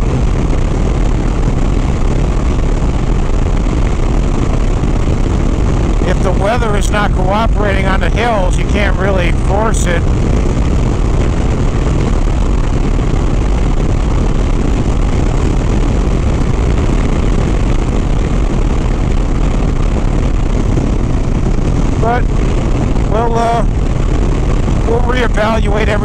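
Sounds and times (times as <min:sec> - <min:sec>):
motorcycle engine droning: 0:00.0 - 0:26.0
wind rushing over microphone: 0:00.0 - 0:26.0.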